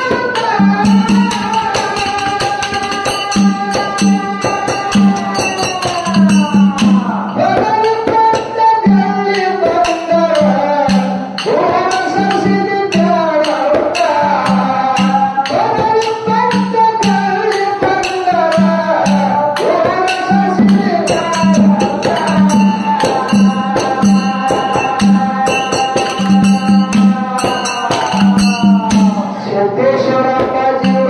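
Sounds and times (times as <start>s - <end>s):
jingling percussion: 0.0s - 29.4s, 30.3s - 31.0s
hand-played barrel drum: 0.0s - 31.0s
man singing: 0.0s - 31.0s.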